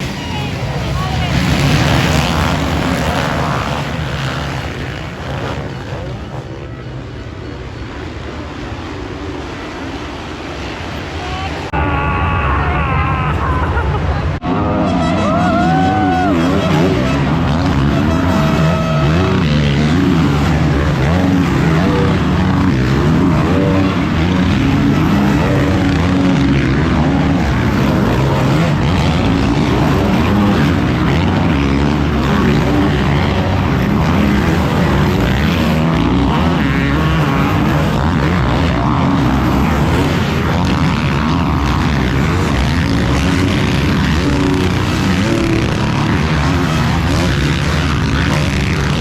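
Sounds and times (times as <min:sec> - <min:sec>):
motocross bike engines revving: 0:00.0 - 0:49.0.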